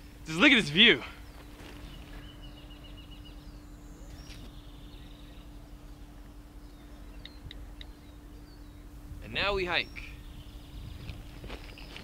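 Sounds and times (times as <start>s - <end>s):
songbirds calling: 0.0s - 12.0s
steady low hum: 0.0s - 12.0s.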